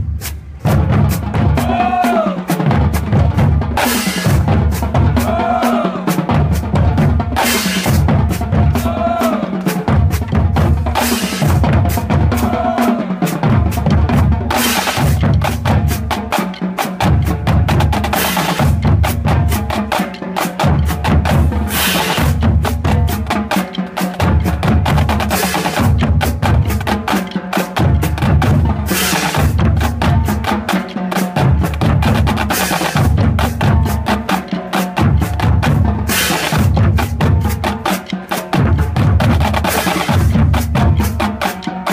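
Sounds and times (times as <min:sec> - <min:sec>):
snare drums rolling: 0:00.0 - 0:41.9.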